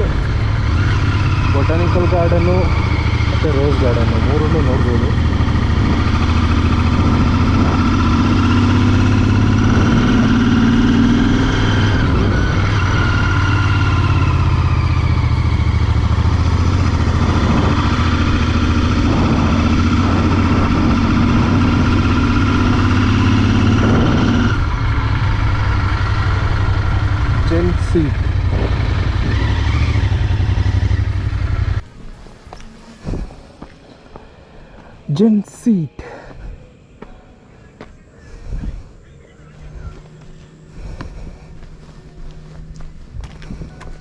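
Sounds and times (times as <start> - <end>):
motorcycle engine running: 0.0 - 32.0, 38.5 - 44.0.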